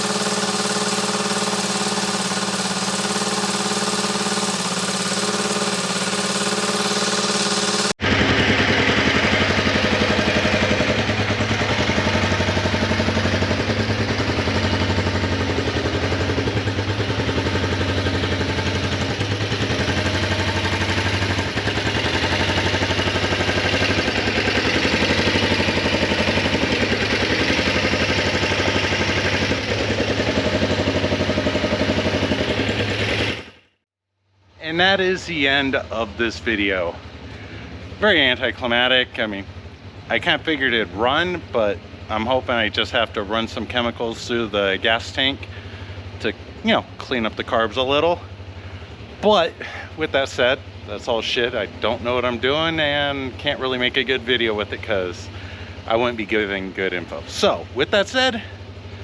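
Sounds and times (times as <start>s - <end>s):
motorcycle engine idling: 0.0s - 33.6s, 34.2s - 59.0s.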